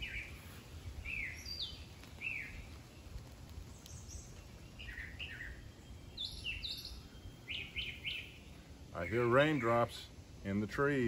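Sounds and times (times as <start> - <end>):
wild birds chirping: 0.0 - 11.0.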